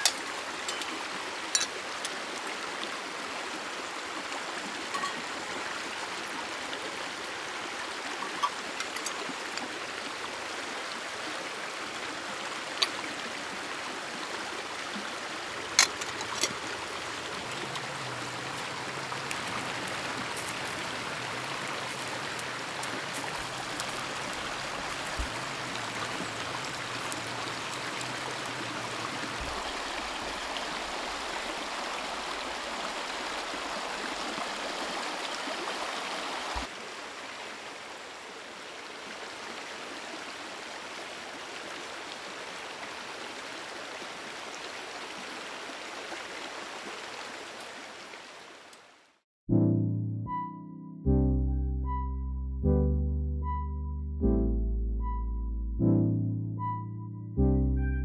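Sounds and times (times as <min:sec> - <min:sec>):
river water flowing: 0:00.0 - 0:49.2.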